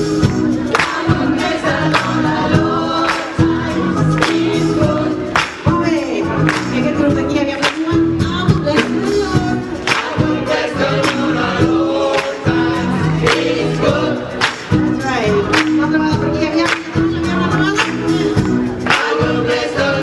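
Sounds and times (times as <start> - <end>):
gospel choir singing: 0.0 - 6.3, 8.7 - 20.0
steady drum beat: 0.0 - 20.0.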